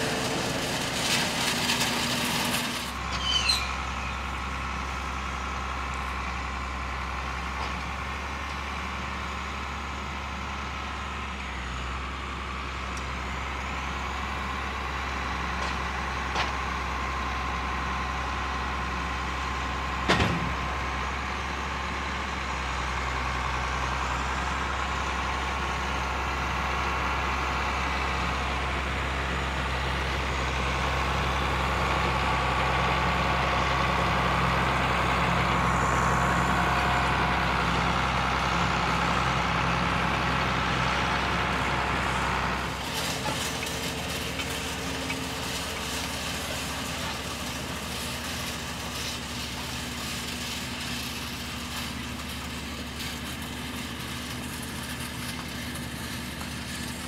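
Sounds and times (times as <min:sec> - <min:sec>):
round baler working: 0:00.0 - 0:57.0
tractor diesel engine running: 0:00.0 - 0:57.0.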